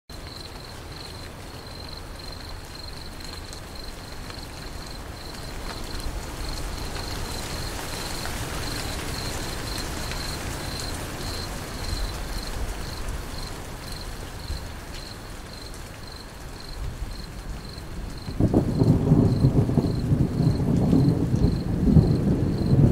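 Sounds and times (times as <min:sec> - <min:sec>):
crickets chirping: 0:00.1 - 0:22.9
rain falling: 0:00.1 - 0:22.9.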